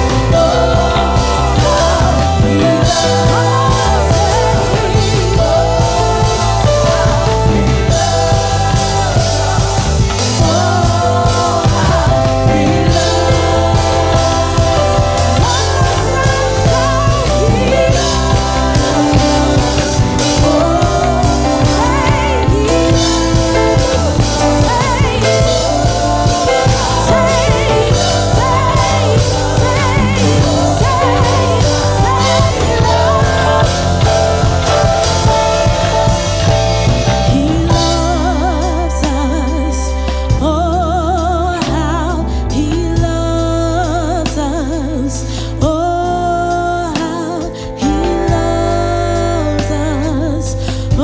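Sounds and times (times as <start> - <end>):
bass guitar: 0.0 - 51.0
drums: 0.0 - 51.0
people singing worship song: 0.0 - 51.0.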